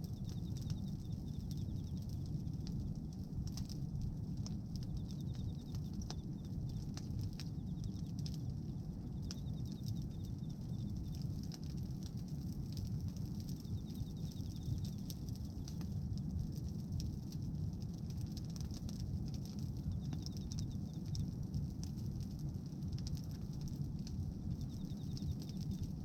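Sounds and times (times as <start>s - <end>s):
fire crackling and popping: 0.0s - 26.0s
fire low rumble: 0.0s - 26.0s.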